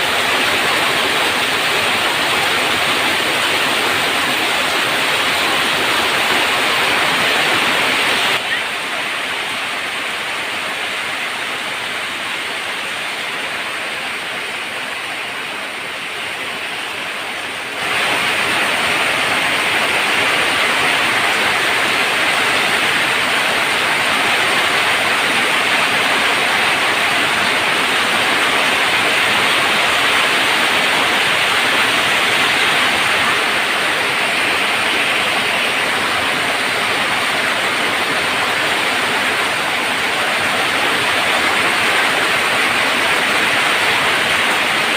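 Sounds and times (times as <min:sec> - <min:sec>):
heavy rain on a tin roof: 0:00.0 - 0:44.9.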